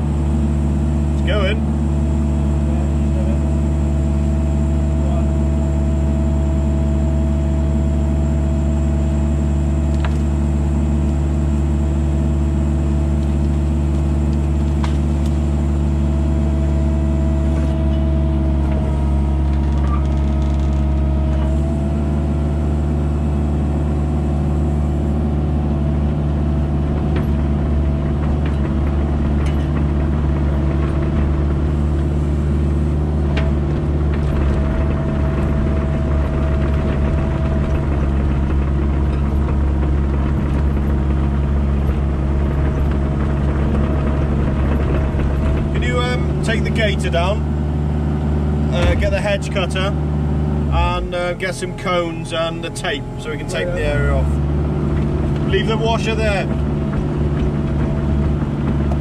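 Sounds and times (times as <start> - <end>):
diesel engine running: 0.0 - 59.0
hydraulics working: 0.0 - 59.0.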